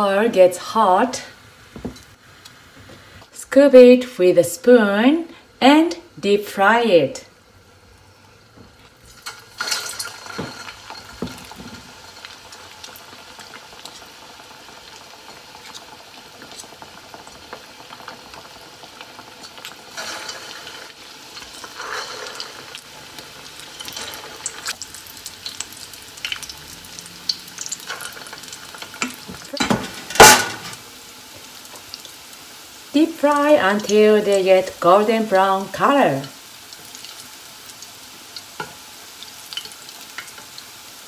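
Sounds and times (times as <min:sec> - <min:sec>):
deep-frying bubbling sizzle: 0:00.0 - 0:41.0.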